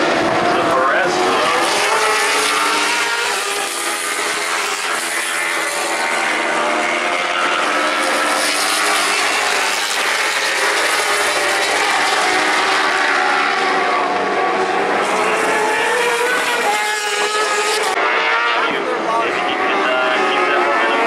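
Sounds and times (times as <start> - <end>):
motorbike engines at high revs: 0.0 - 21.0.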